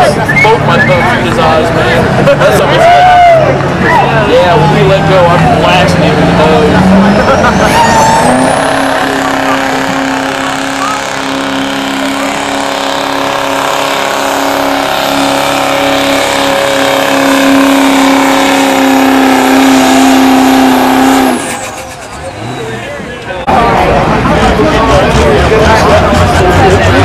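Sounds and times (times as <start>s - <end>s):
diesel truck engine at high revs: 0.0s - 27.0s.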